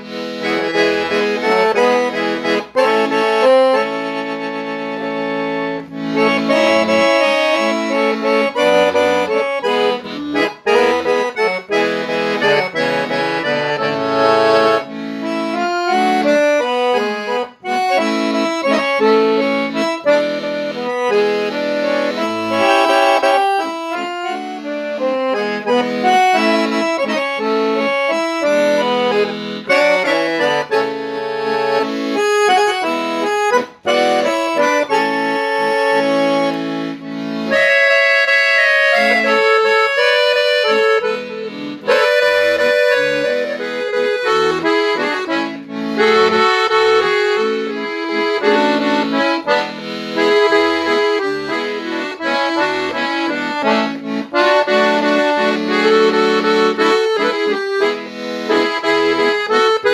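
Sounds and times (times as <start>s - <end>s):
accordion melody: 0.0s - 59.9s.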